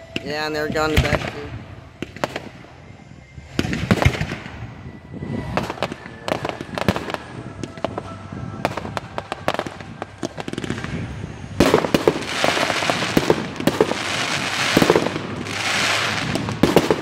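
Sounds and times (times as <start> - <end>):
fireworks banging and crackling: 0.0 - 17.0.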